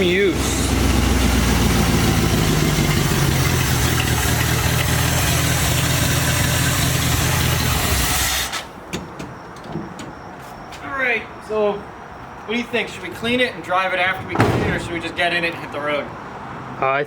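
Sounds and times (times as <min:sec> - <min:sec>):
truck engine idling: 0:00.0 - 0:16.8.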